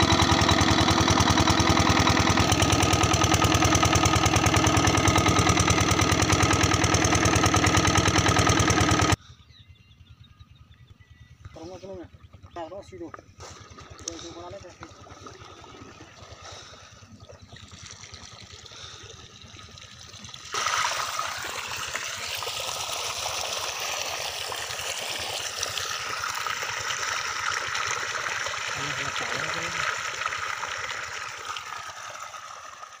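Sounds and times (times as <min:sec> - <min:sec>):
water gushing from a pipe: 0:00.0 - 0:09.2, 0:13.5 - 0:33.0.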